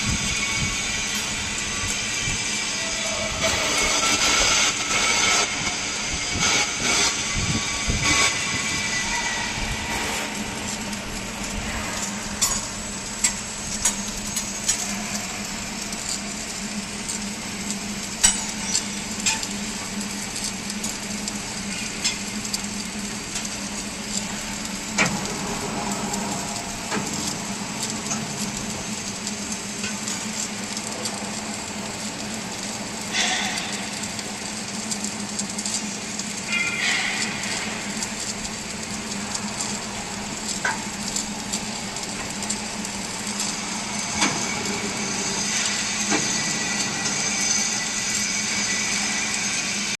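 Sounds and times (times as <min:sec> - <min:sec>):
constant hum: 0:00.0 - 0:50.0
welding arc crackling: 0:00.0 - 0:50.0.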